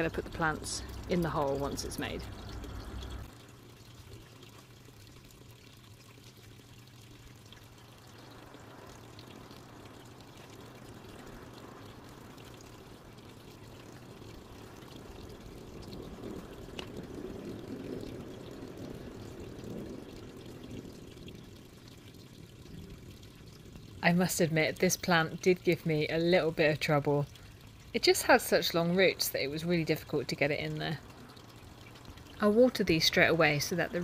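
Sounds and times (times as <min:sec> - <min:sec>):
low steady hum: 0:00.0 - 0:34.0
water trickling in pond: 0:00.0 - 0:34.0.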